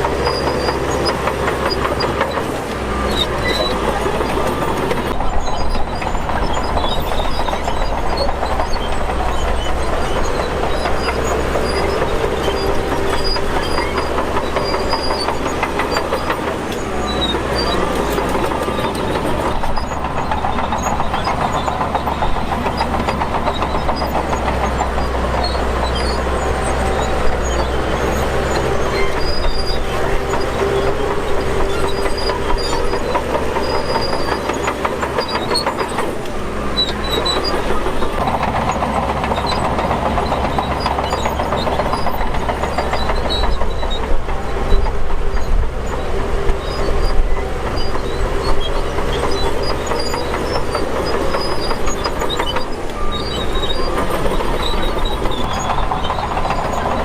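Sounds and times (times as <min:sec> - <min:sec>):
bulldozer diesel engine running: 0:00.0 - 0:57.0
steel tracks clanking: 0:00.0 - 0:57.0.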